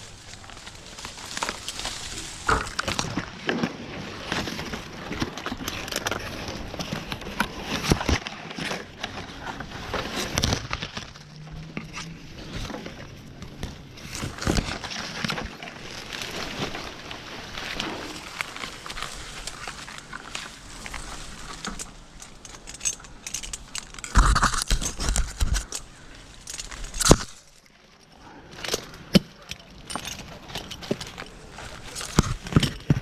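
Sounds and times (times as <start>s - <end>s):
dry palm fronds crackling: 0.0s - 33.0s.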